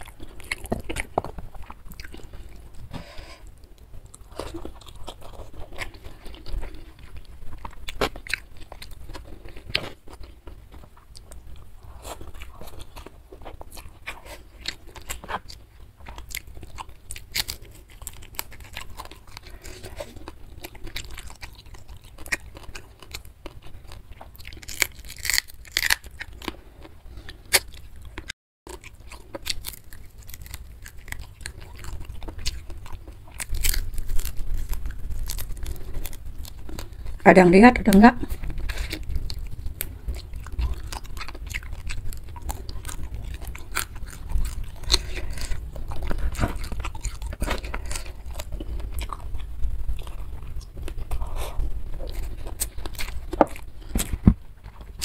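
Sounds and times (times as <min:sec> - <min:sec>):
person chewing crunchy food: 0:00.0 - 0:37.2, 0:37.9 - 0:55.0.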